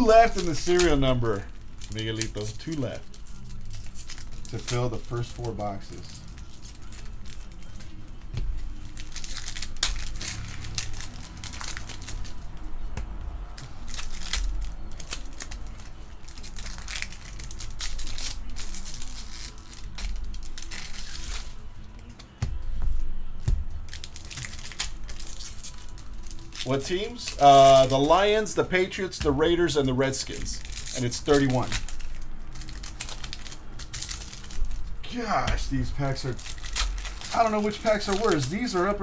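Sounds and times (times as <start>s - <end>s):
foil wrappers crinkling and tearing: 0.0s - 22.4s, 23.2s - 39.0s
cards shuffled in hands: 0.0s - 22.6s, 23.4s - 39.0s.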